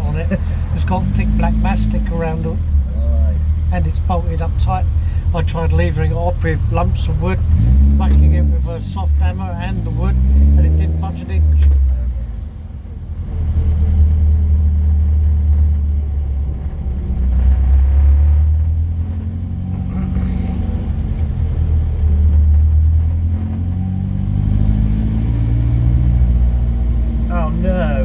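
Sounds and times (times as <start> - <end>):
car engine rumbling: 0.0 - 28.0
road noise: 0.0 - 28.0.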